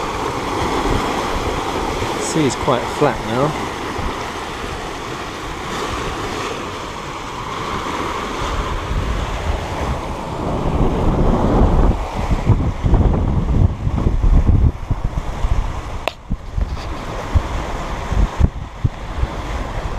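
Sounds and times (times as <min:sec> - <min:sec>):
water rushing and splashing: 0:00.0 - 0:19.9
wind buffeting microphone: 0:00.0 - 0:19.9.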